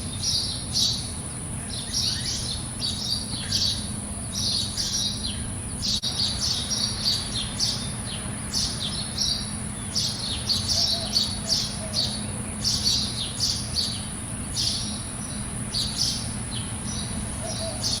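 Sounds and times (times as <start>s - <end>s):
bird chirping: 0.1s - 18.0s.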